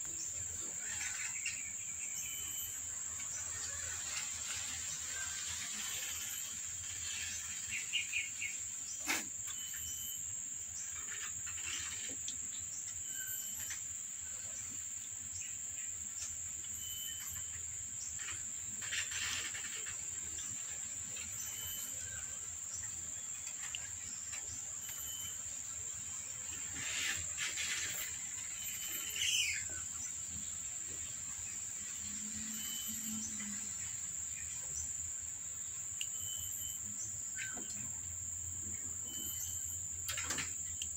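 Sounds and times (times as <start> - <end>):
high-pitched insect chirring: 0.3 - 8.7, 9.4 - 14.8, 15.4 - 40.9.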